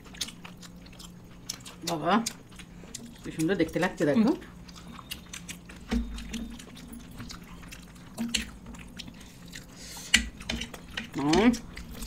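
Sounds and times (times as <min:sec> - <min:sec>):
wet chewing and mouth sounds: 0:00.0 - 0:12.0.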